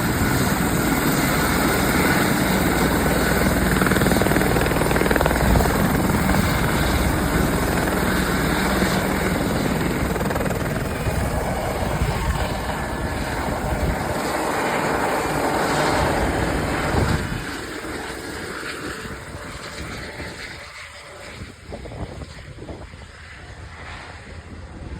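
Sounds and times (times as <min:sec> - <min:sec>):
helicopter turbine and rotor noise: 0:00.0 - 0:24.9.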